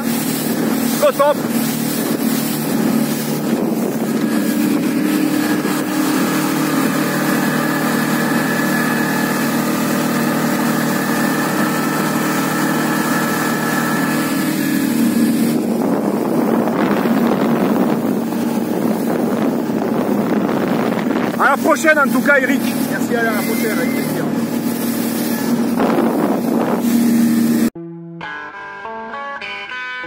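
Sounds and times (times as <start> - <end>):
rushing water: 0.0 - 27.7
outboard motor running: 0.0 - 27.8.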